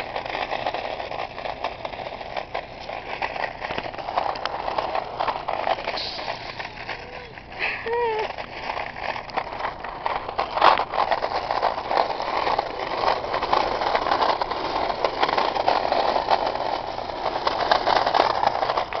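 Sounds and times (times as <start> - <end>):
small clicks and scrapes: 0.0 - 19.0
wheels rolling over rough pavement: 0.0 - 19.0.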